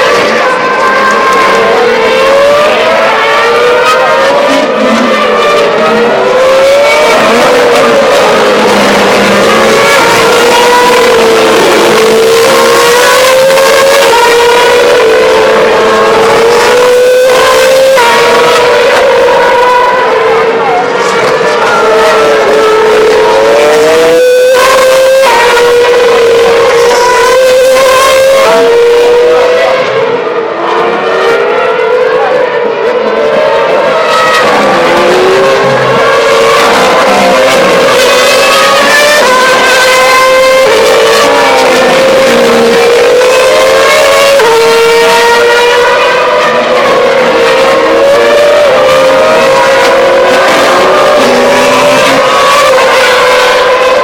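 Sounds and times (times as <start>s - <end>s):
racing car engines screaming: 0.0s - 54.0s.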